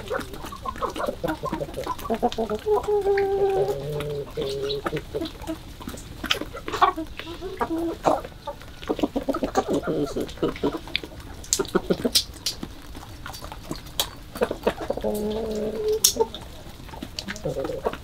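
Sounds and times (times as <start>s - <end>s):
beaks pecking: 0.0s - 18.0s
chickens clucking: 0.0s - 18.0s.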